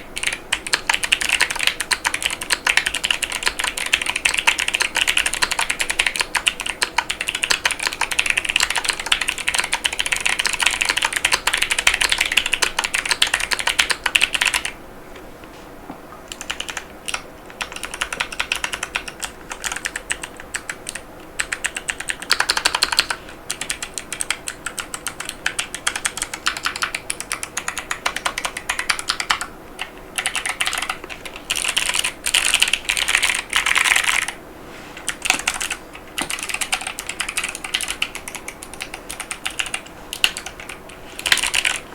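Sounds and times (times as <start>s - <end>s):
mechanical keyboard typing: 0.2s - 14.8s, 16.3s - 34.4s, 35.0s - 41.9s.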